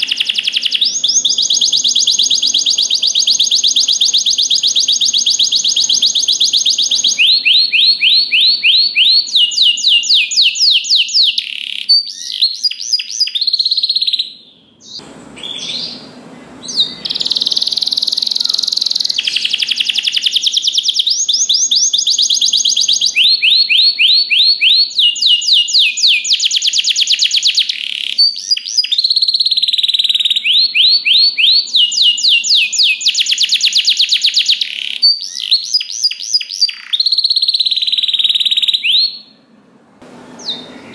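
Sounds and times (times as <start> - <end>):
canary singing trills: 0.0 - 39.4, 40.4 - 40.9.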